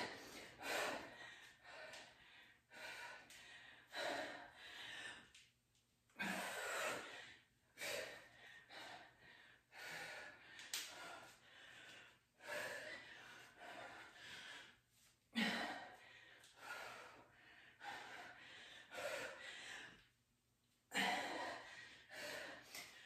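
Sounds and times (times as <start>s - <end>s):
woman breathing hard: 0.0s - 20.2s, 20.9s - 23.0s.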